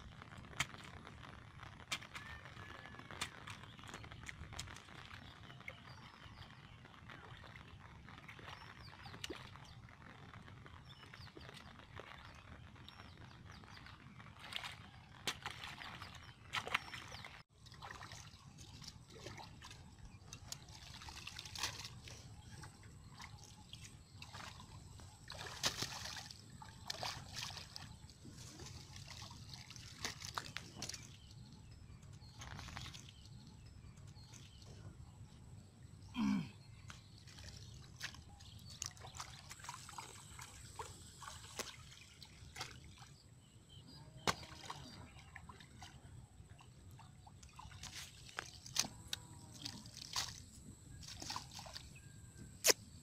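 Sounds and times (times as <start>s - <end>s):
muddy water sloshing and splashing: 0.2s - 52.8s.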